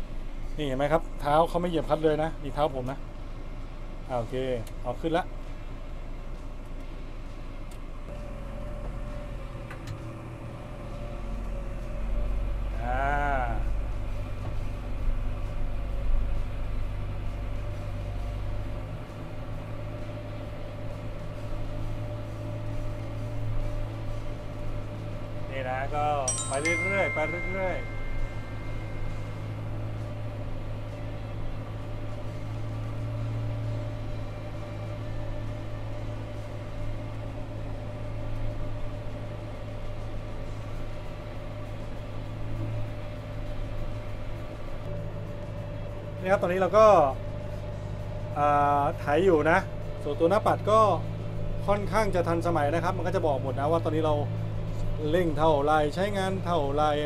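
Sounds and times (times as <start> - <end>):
diesel tractor engine droning: 0.0 - 57.0
faint steady whine: 9.9 - 57.0.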